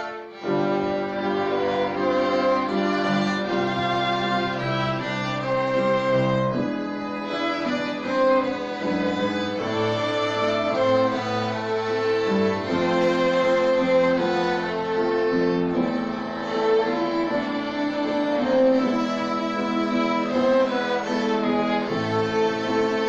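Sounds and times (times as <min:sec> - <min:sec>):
violin ensemble playing: 0:00.0 - 0:23.0.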